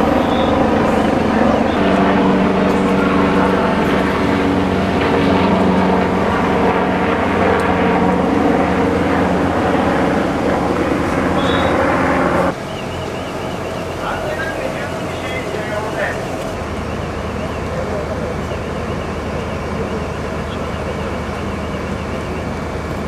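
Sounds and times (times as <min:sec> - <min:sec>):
large vehicle engine running: 0:00.0 - 0:23.0.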